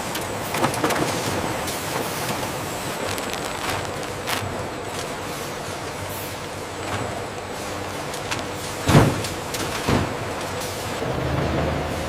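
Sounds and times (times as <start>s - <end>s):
factory machinery running: 0.0s - 12.0s.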